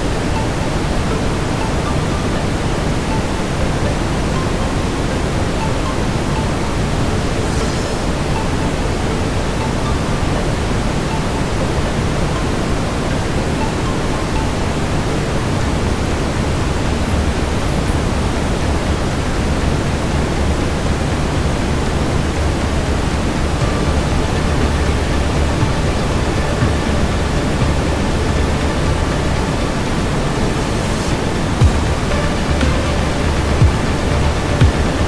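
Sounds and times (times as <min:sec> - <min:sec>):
deep rumbling brown noise: 0:00.0 - 0:35.0.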